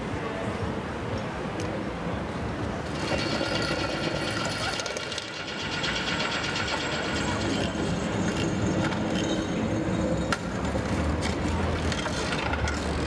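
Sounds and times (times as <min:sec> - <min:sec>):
murmur of voices: 0:00.0 - 0:13.0
traffic rumble: 0:00.0 - 0:13.0.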